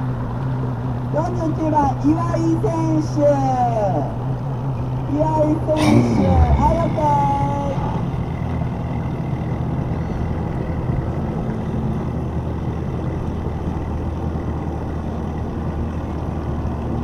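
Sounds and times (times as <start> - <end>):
outboard engine idling: 0.0 - 17.0
water noise: 0.0 - 17.0
wind: 0.0 - 17.0.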